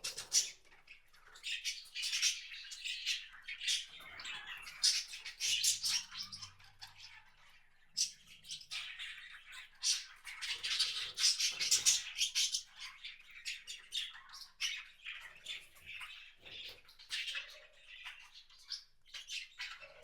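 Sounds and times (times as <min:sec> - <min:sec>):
small birds chirping and squawking: 0:00.0 - 0:20.0.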